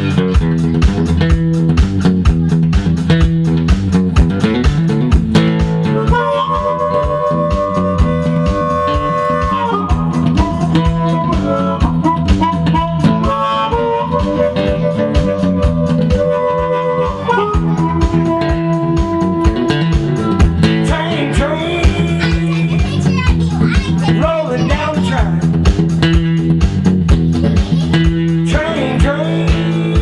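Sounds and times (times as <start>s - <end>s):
acoustic guitar picking: 0.0s - 30.0s
blues harmonica: 0.0s - 30.0s.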